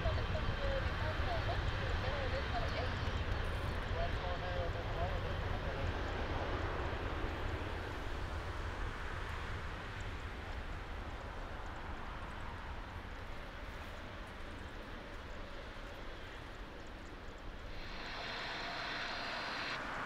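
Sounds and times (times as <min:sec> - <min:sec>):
jet engines rumbling hiss: 0:00.0 - 0:20.0.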